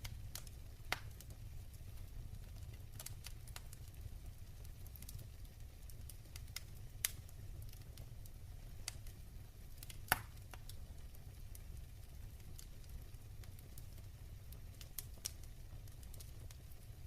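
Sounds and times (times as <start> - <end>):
fire popping loudly: 0.0 - 17.0
wood fire crackling: 0.0 - 17.0.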